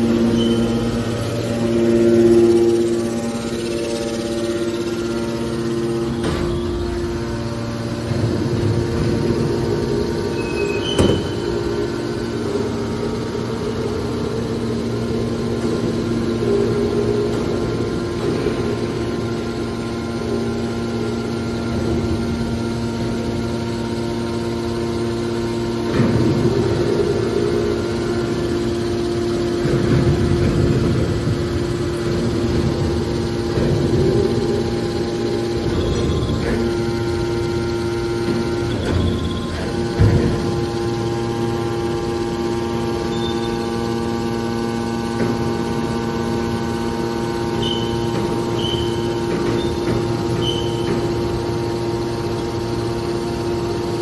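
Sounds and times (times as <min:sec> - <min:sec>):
baler motors humming and whining: 0:00.0 - 0:54.0.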